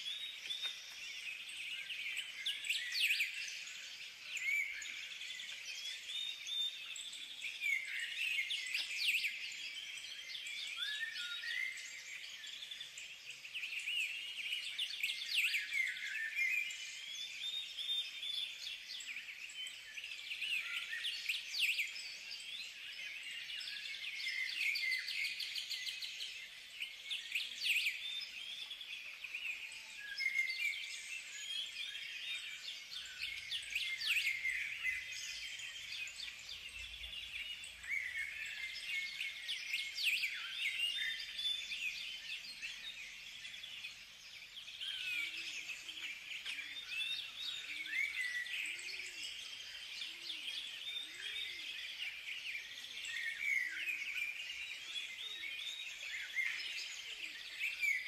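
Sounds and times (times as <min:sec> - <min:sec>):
birds chirping in chorus: 0:00.0 - 0:58.0.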